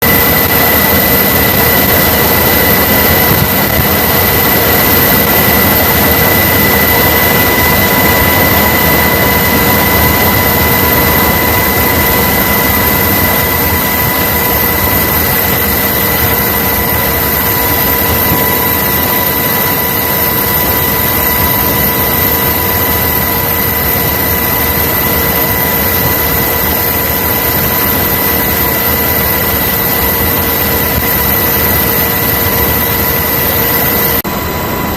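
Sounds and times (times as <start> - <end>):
jet engine running with whine: 0.0 - 34.9.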